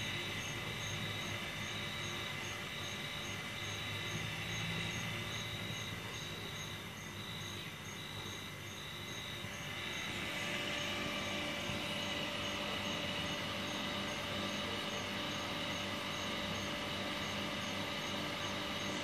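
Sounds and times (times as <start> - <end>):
crickets chirping: 0.0 - 19.0
low pump hum: 0.0 - 19.0.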